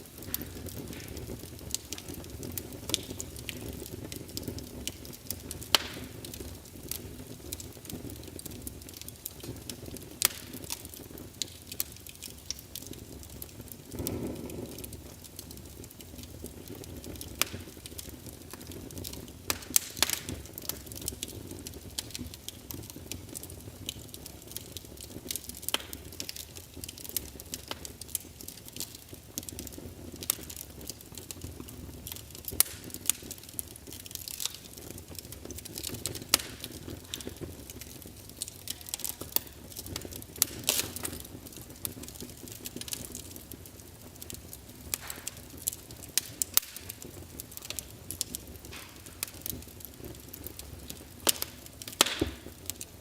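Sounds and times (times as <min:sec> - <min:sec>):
low rumble of flames: 0:00.0 - 0:53.0
sharp pops of fire: 0:00.0 - 0:53.0
wood fire crackling: 0:00.0 - 0:53.0.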